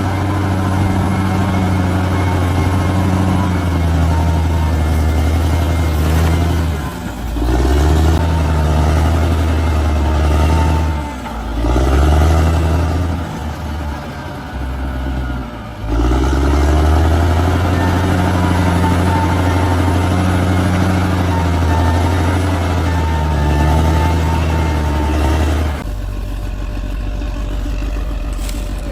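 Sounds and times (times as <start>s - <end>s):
bulldozer diesel engine revving: 0.0s - 28.9s.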